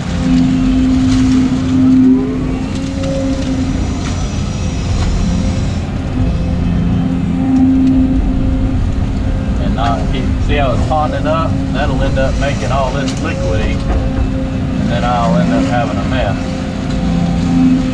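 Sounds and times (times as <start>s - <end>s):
excavator engine and hydraulics: 0.0s - 17.9s
rising hydraulic whine: 0.0s - 17.9s.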